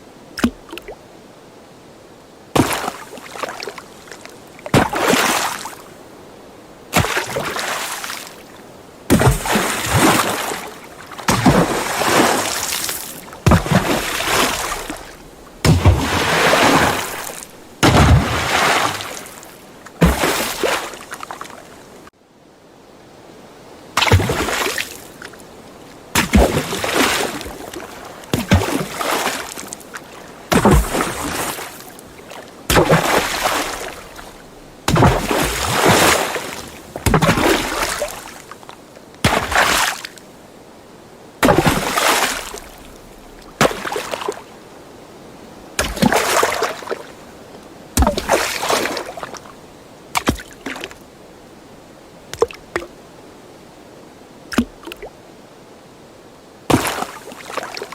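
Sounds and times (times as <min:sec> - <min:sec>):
water splashes: 0:00.3 - 0:01.1, 0:02.5 - 0:06.0, 0:06.9 - 0:22.1, 0:24.0 - 0:40.3, 0:41.4 - 0:44.7, 0:45.7 - 0:51.1, 0:52.3 - 0:53.0, 0:54.5 - 0:55.2, 0:56.7 - 0:57.9.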